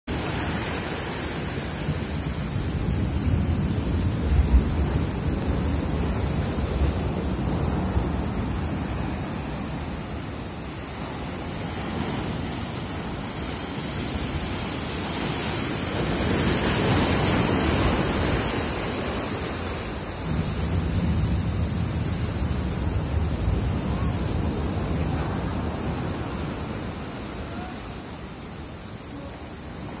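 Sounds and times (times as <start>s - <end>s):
churning surf and running water: 0.1s - 30.0s.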